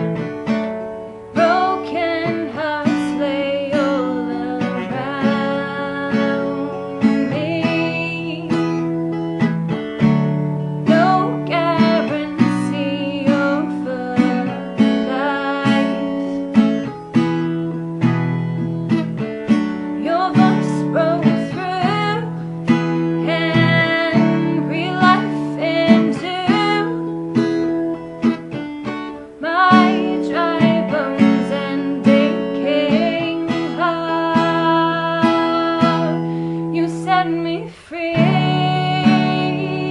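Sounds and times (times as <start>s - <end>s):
acoustic guitar strumming: 0.0s - 39.9s
woman singing: 1.3s - 9.1s, 10.8s - 16.9s, 18.0s - 39.9s.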